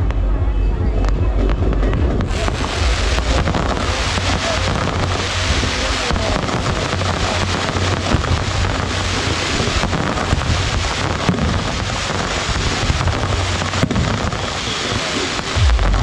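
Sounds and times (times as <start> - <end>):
deep fireworks rumble: 0.0 - 16.0
fireworks crackling hiss: 2.2 - 16.0.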